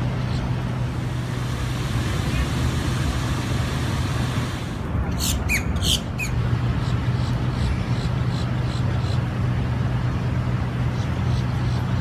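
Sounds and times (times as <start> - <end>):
low rumble of urban traffic: 0.0 - 12.0.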